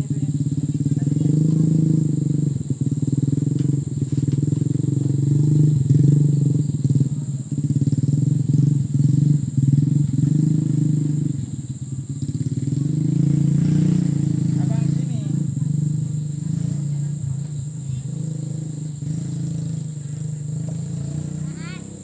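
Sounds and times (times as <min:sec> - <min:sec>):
small engine chugging: 0:00.0 - 0:22.0.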